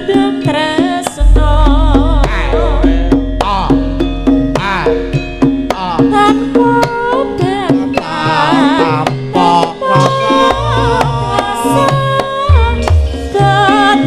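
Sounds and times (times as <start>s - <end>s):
bronze metallophones: 0.0s - 14.0s
ornamented vocal singing: 0.0s - 14.0s
hand drum pattern: 0.1s - 14.0s.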